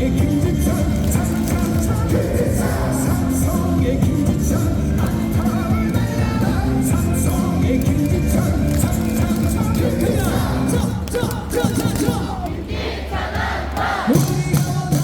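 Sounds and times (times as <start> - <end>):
cheer song over loudspeakers: 0.0 - 15.0
crowd singing and shouting: 0.0 - 15.0.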